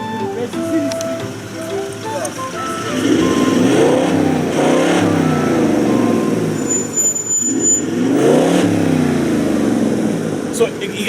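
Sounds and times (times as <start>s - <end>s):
vehicle engine revving: 0.3s - 11.0s.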